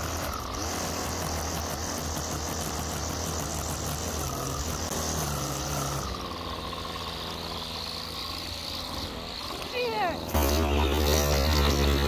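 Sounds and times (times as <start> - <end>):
string trimmer engine running: 0.0 - 12.0.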